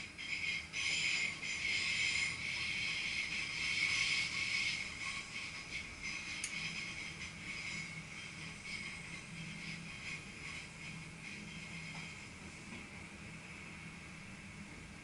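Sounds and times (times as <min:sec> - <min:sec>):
train running gear squealing: 0:00.0 - 0:13.1.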